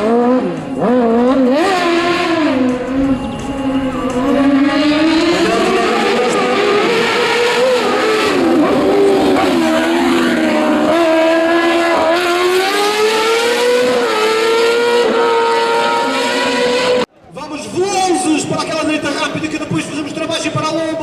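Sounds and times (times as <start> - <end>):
rally car engine revving: 0.0 - 17.1.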